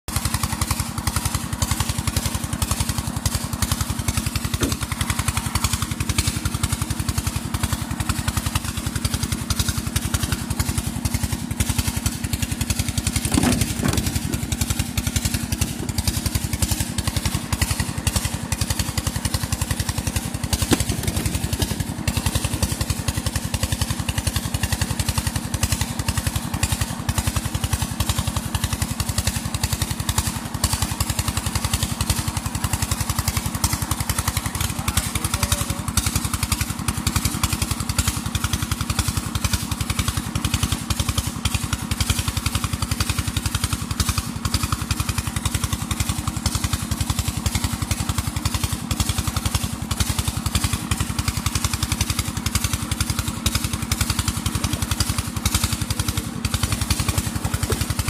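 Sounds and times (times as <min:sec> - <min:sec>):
small engine running: 0:00.1 - 0:58.0.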